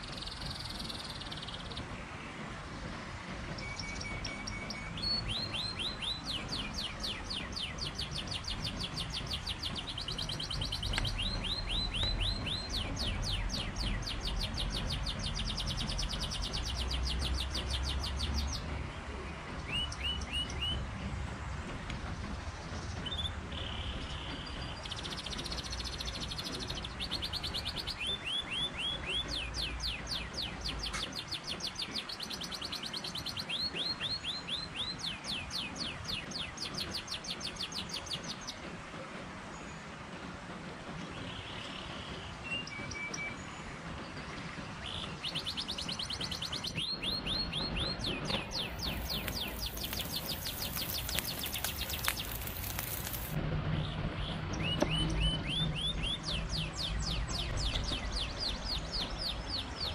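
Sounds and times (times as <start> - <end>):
songbirds singing: 0.0 - 2.5, 3.4 - 38.6, 41.0 - 59.9.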